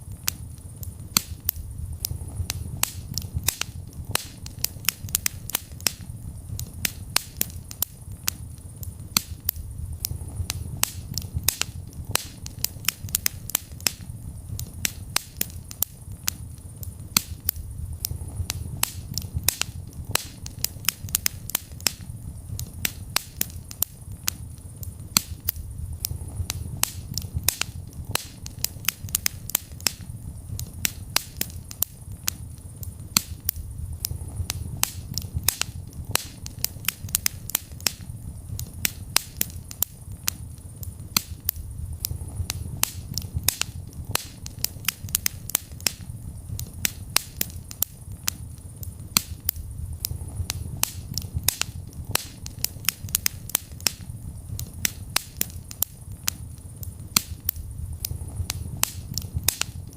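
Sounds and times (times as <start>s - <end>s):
low steady rumble: 0.0s - 59.9s
wood fire crackling: 0.0s - 59.9s.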